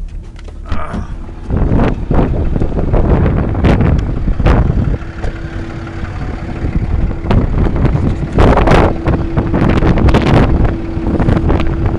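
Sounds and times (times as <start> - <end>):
wind buffeting the microphone: 1.1 - 11.9.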